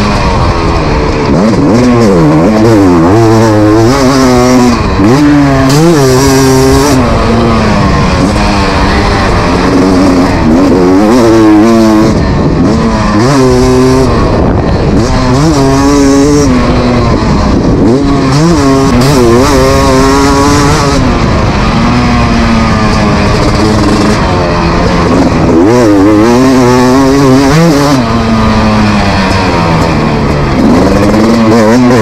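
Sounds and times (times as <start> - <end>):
motocross bike engine revving: 0.0 - 32.0.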